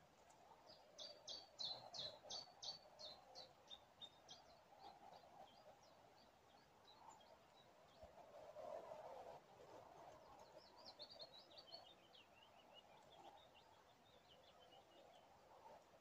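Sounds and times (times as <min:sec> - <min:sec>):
songbirds chirping: 0:00.0 - 0:09.0, 0:09.8 - 0:16.0.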